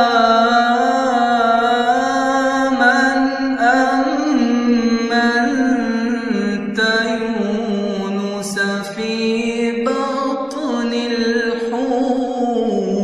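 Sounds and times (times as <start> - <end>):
man singing melismatic vowel: 0.0 - 13.0.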